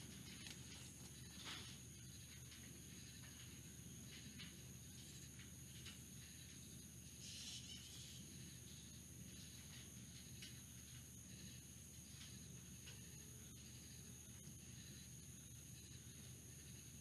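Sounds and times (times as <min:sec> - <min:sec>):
faint ticks: 0:00.0 - 0:17.0
steady high hiss: 0:00.0 - 0:17.0.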